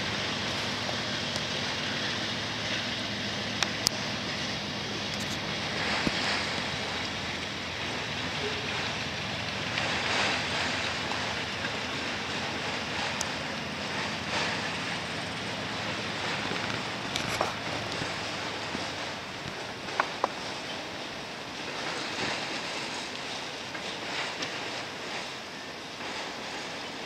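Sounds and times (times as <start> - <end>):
steel wheels rumbling on rails: 0.0 - 27.0.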